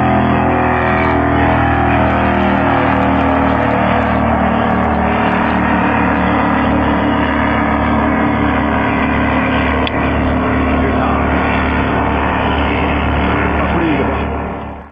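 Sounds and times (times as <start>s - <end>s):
outboard engines droning: 0.0s - 14.9s
water noise: 0.0s - 14.9s.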